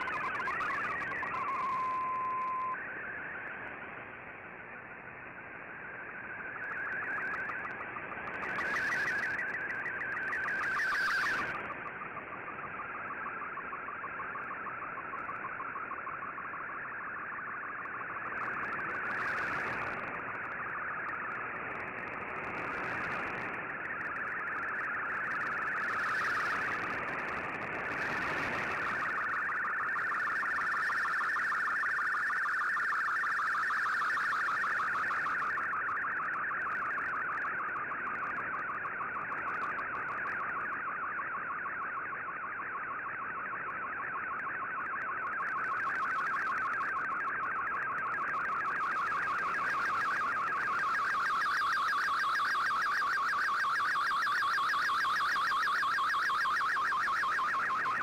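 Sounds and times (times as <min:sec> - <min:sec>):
warbling data tone: 0:00.0 - 0:03.4, 0:05.8 - 0:58.0.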